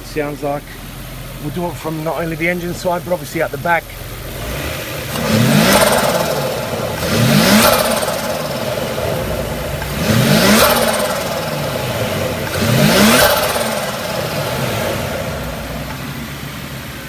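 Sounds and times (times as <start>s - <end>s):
turbo engine revving: 0.0s - 17.0s.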